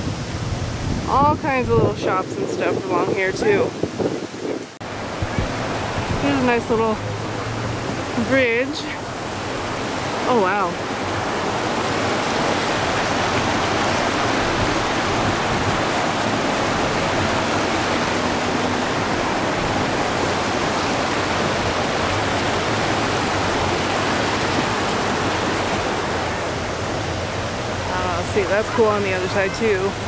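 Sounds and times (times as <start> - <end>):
water rushing over boulders: 0.0 - 30.0.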